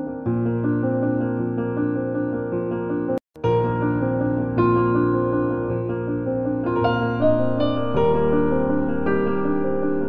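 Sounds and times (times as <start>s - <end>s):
soft piano music: 0.0s - 10.0s.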